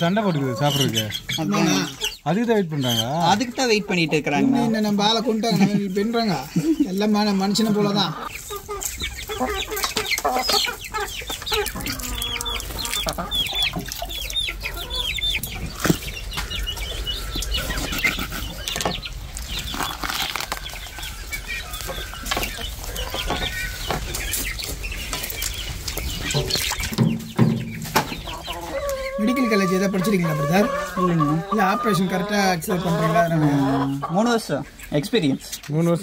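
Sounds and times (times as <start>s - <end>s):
chickens clucking and squawking: 0.0s - 36.0s.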